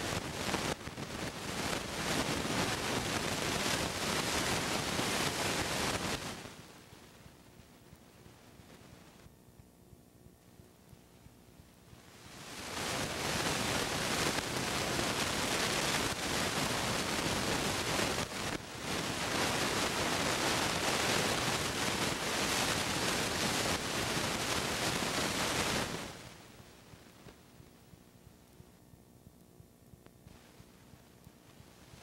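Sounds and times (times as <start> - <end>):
static hiss: 0.0 - 32.0.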